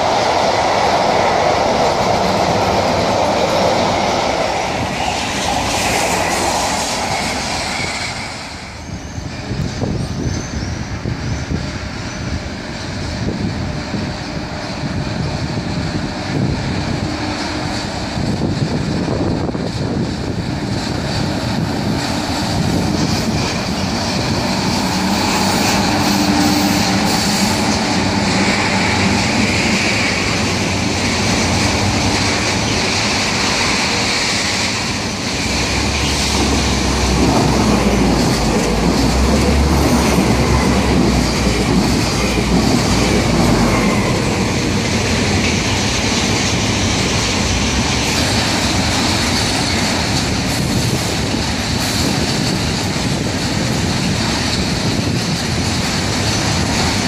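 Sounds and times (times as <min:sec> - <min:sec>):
train wheels rolling on rails: 0:00.0 - 0:57.0
clickety-clack over rail joints: 0:11.3 - 0:57.0.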